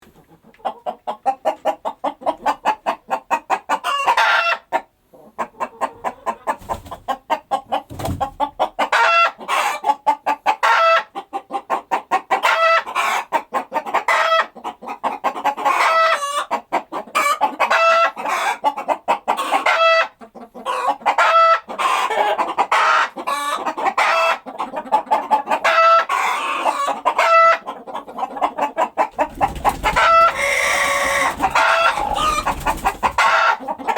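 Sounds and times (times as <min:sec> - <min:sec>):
chickens clucking: 0:00.0 - 0:33.9
chicken pitched calls: 0:00.2 - 0:33.9.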